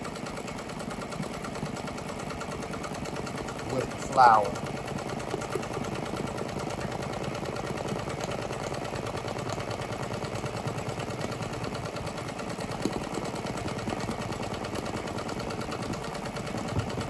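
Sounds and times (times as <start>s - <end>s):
embroidery machine stitching: 0.0s - 17.0s.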